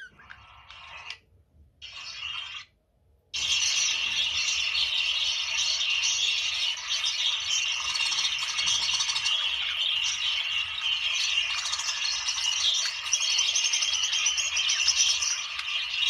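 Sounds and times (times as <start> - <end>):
budgerigars chattering: 0.0 - 1.2, 1.8 - 2.7, 3.4 - 16.0.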